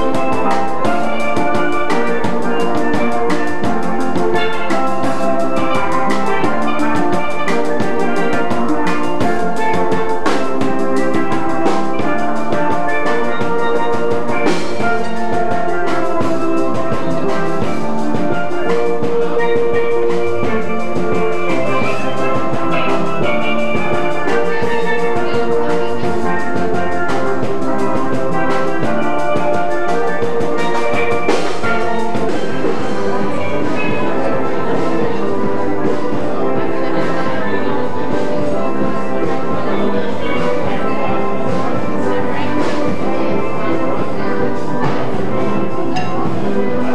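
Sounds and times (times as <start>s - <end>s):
ringing melody: 0.0s - 38.6s, 45.5s - 46.9s
drum beat: 0.0s - 46.9s.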